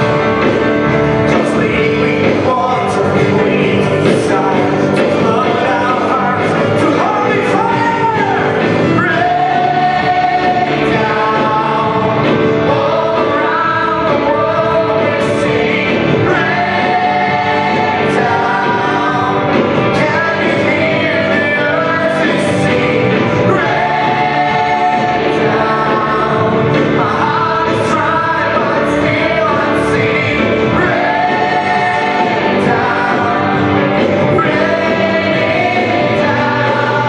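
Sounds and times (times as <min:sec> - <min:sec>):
choir singing: 0:00.0 - 0:37.0
gospel worship band playing: 0:00.0 - 0:37.0.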